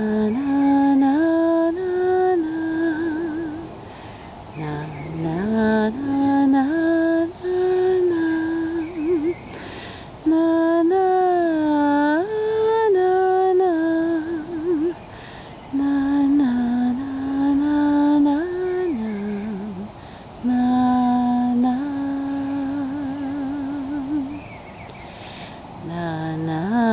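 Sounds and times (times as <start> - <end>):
woman humming a lullaby: 0.0 - 3.7, 4.6 - 9.5, 10.2 - 15.0, 15.7 - 24.4, 25.8 - 26.9.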